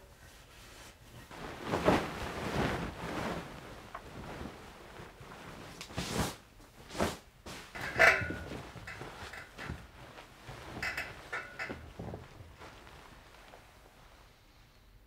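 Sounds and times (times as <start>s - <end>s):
bed sheets rustling: 0.2s - 14.4s.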